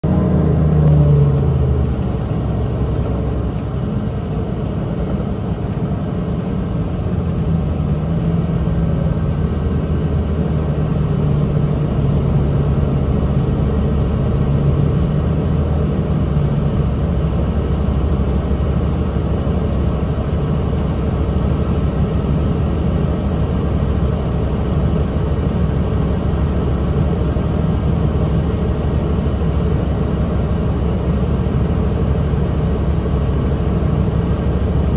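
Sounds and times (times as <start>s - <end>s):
bus diesel engine rumbling: 0.0s - 34.9s.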